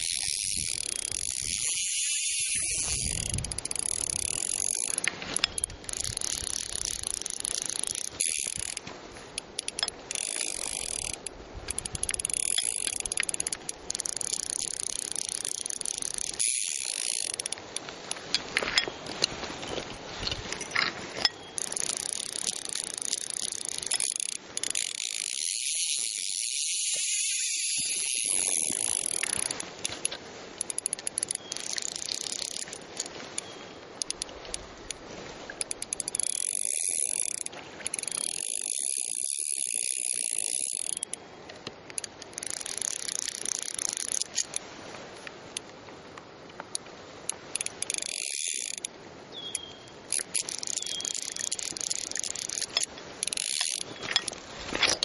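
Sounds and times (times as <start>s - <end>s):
fly reel drag ratcheting: 0.0s - 45.7s, 46.7s - 55.0s.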